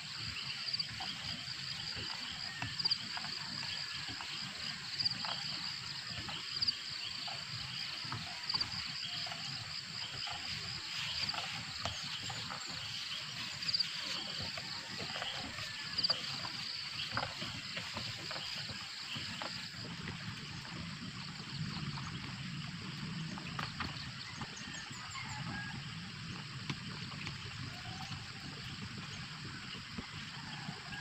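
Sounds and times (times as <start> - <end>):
insect chorus: 0.0 - 31.0.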